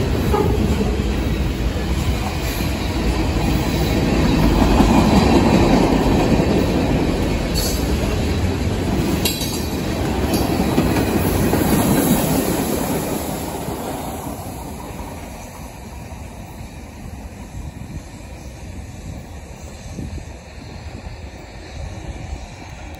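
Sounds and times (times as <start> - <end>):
freight train wheels rumbling: 0.0 - 22.9.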